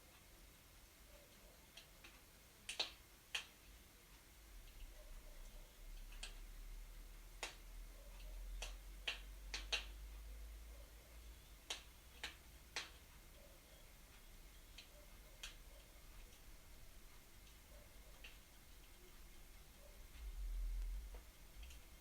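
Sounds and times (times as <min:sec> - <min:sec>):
wood fire crackling: 0:01.4 - 0:05.0, 0:05.9 - 0:22.0
faint low hum: 0:03.7 - 0:22.0.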